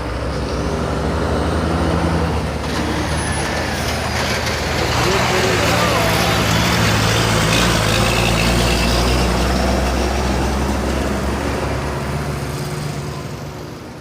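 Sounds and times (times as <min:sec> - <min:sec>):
road noise: 0:00.0 - 0:14.0
truck diesel engine running: 0:00.0 - 0:14.0.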